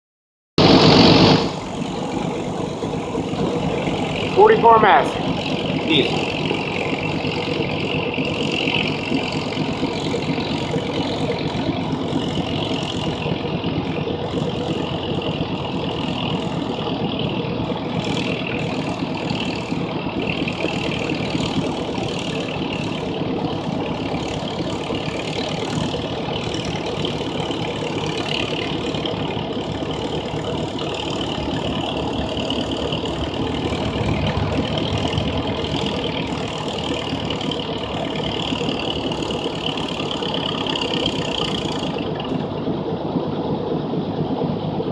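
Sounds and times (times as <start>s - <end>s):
tractor engine under load: 0.6s - 44.9s.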